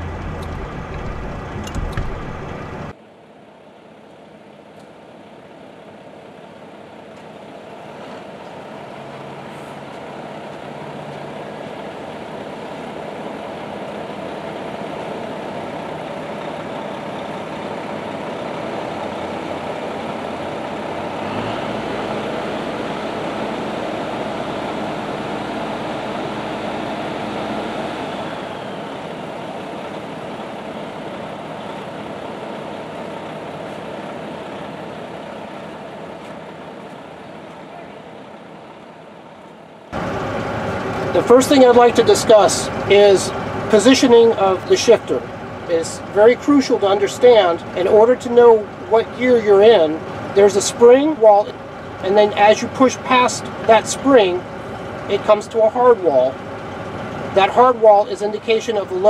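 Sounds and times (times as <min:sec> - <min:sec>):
deeper rumble: 0:00.0 - 0:03.0, 0:08.7 - 0:55.6
heavy truck engine and road noise: 0:00.0 - 0:59.0.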